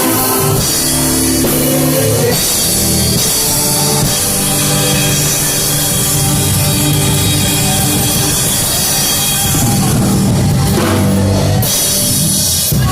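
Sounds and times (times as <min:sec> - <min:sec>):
drum kit beat: 0:00.0 - 0:12.9
live gospel band playing: 0:00.0 - 0:12.9.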